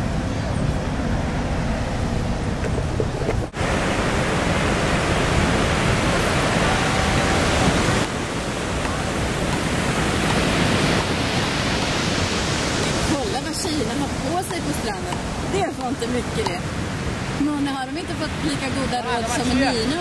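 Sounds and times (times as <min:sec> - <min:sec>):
rushing outdoor ambience: 0:00.0 - 0:20.0.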